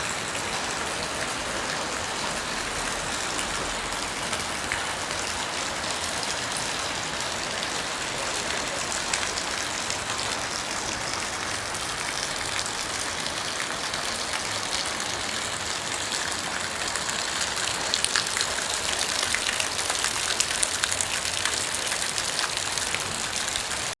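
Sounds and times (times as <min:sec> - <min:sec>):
rain falling: 0:00.0 - 0:24.0
raindrops pattering on a surface: 0:00.0 - 0:24.0.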